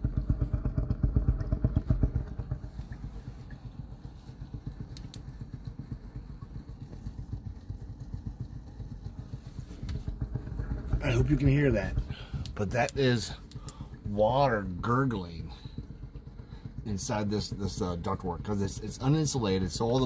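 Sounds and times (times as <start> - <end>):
water gurgling in fan duct: 0.0 - 20.0.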